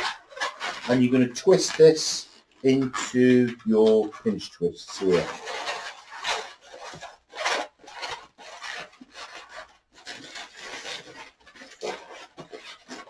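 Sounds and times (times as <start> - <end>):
balloon squeaking while twisted: 0.0 - 13.0.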